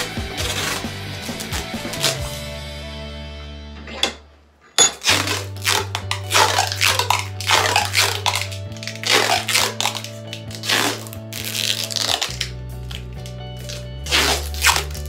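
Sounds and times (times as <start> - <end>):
adhesive tape ripping off roll: 0.0 - 2.4, 5.0 - 15.0
background music: 0.0 - 15.0.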